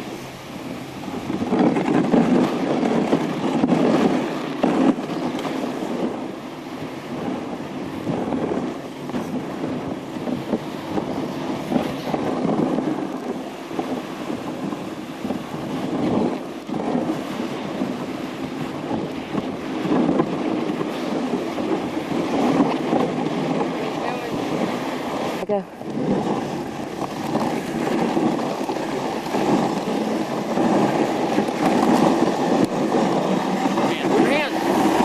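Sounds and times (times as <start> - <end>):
sled runners scraping on snow: 0.0 - 35.0
wind buffeting microphone: 0.0 - 35.0.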